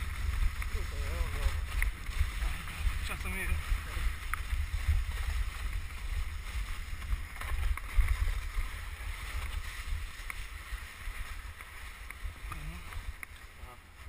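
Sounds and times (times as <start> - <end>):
sledge runners hissing through snow: 0.0 - 14.0
wind buffeting microphone: 0.0 - 14.0.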